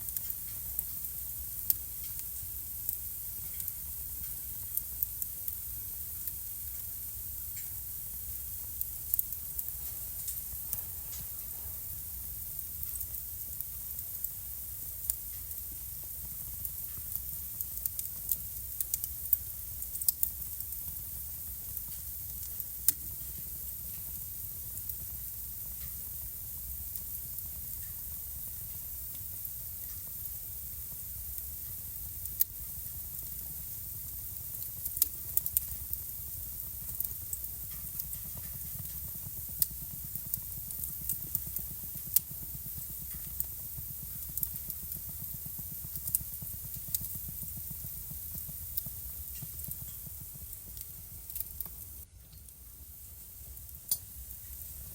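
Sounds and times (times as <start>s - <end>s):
fire crackles and pops: 0.0s - 54.9s
soft fire hiss: 0.0s - 54.9s.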